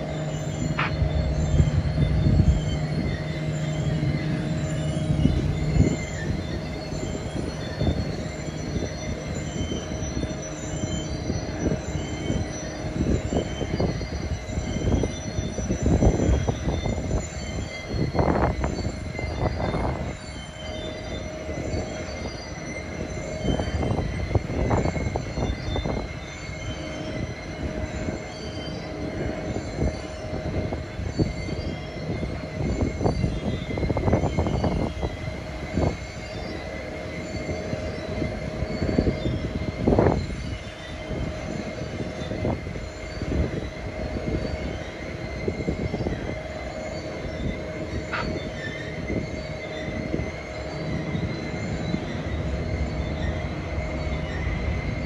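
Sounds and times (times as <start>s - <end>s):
freight train rumble: 0.0s - 55.0s
low hum: 0.0s - 55.0s
thin wheel squeal: 0.0s - 55.0s.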